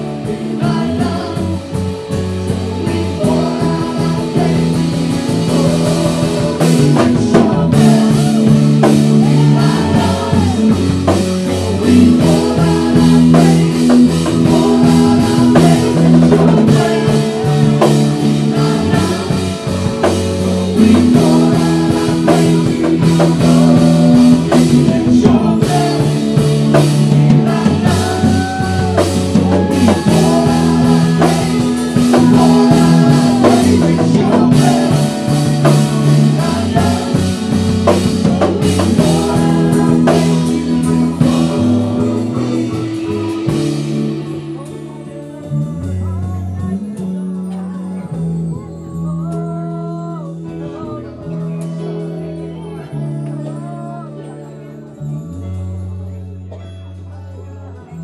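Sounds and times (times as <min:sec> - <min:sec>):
people singing: 0:00.0 - 0:54.6
worship band playing: 0:00.0 - 0:58.0.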